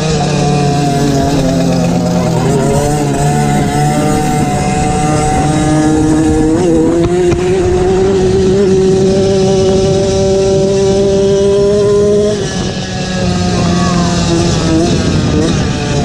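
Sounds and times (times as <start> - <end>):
motocross bike engine high revs: 0.0 - 16.0.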